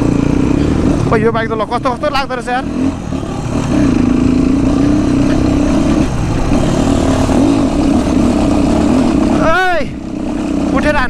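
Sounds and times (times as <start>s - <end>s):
heavy low rumble: 0.0s - 11.0s
motorcycle engine running: 0.0s - 11.0s.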